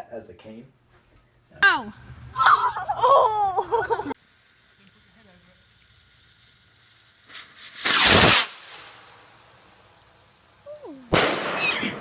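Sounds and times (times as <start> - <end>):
firework blasts: 1.8 - 12.0
firework rising hiss: 1.8 - 12.0.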